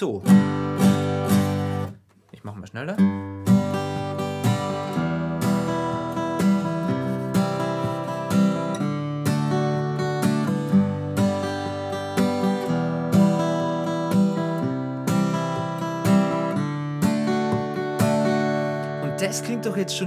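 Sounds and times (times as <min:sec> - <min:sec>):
acoustic guitar strumming: 0:00.0 - 0:02.0, 0:03.0 - 0:20.0.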